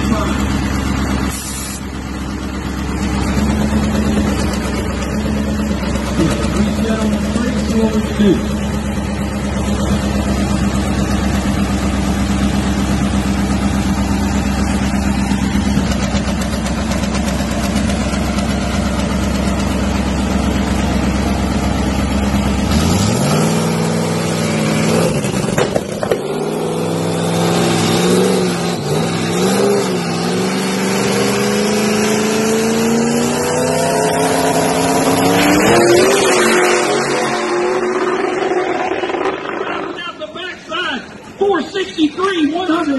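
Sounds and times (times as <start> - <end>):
dragster engine revving: 0.0 - 42.9.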